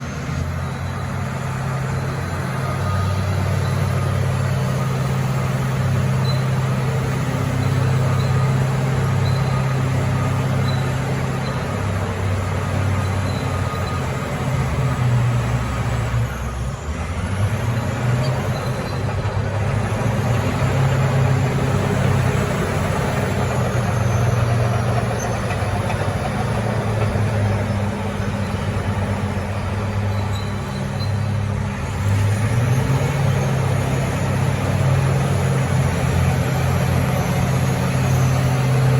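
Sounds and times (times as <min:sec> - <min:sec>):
bulldozer diesel engines: 0:00.0 - 0:38.9.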